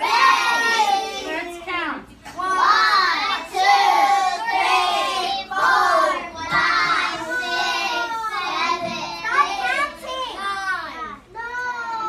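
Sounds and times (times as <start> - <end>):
children counting in unison: 0.0 - 1.6, 2.3 - 12.0.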